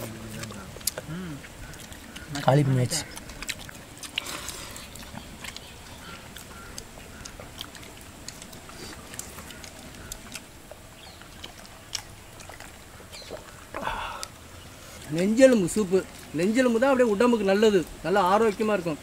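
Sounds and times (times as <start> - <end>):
people chewing: 0.0 - 18.9.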